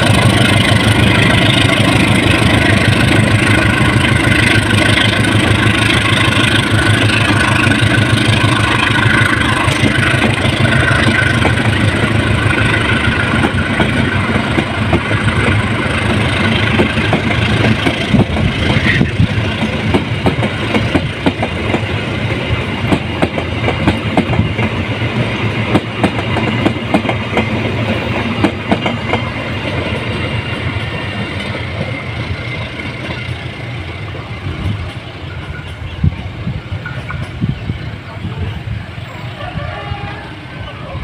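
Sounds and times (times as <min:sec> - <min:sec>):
train wheels clacking on rail joints: 0:00.0 - 0:38.0
train rumble: 0:00.0 - 0:41.0.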